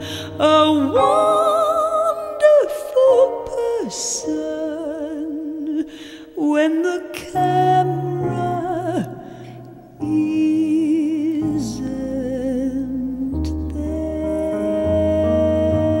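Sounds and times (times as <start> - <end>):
woman singing a ballad: 0.0 - 16.0.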